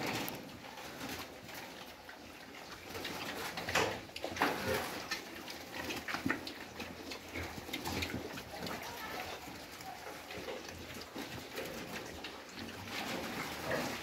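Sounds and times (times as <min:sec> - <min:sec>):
pigs calling: 0:00.0 - 0:14.0
young pigs grunting and snuffling: 0:00.0 - 0:14.0.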